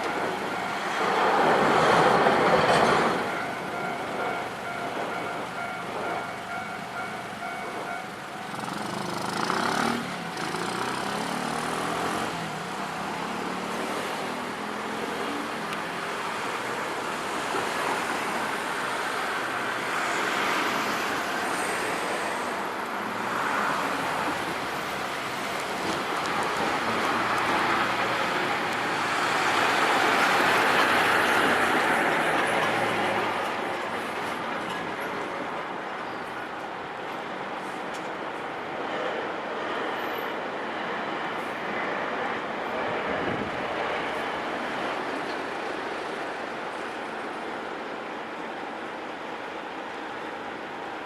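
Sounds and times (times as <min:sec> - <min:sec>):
vehicles passing: 0:00.0 - 0:51.0.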